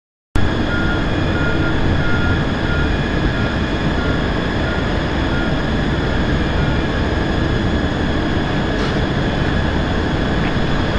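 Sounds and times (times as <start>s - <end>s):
high whining tones: 0.4s - 10.9s
jet engines roaring: 0.4s - 10.9s.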